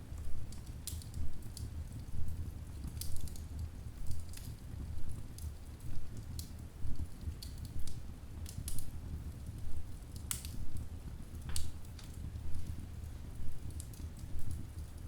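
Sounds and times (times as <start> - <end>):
low rumble of flames: 0.0 - 15.0
logs crackling and popping: 0.5 - 12.8.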